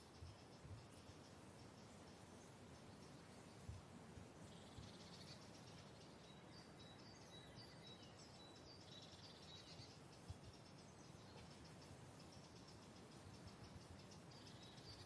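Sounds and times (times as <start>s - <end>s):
faint high-pitched chirping: 0.0s - 3.8s, 4.4s - 15.0s
low steady hiss: 0.0s - 15.0s.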